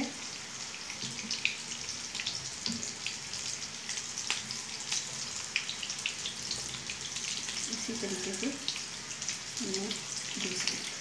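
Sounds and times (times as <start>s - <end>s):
patties sizzling in hot oil: 0.0s - 11.0s.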